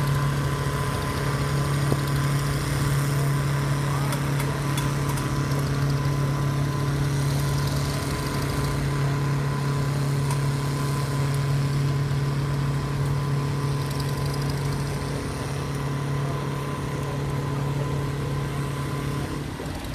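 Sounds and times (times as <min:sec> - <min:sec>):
tractor engines humming: 0:00.0 - 0:19.9.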